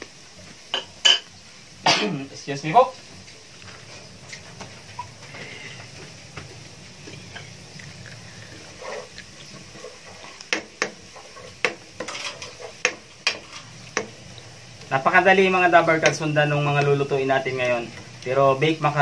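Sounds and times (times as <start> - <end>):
garlic sizzling in oil: 0.0 - 19.0.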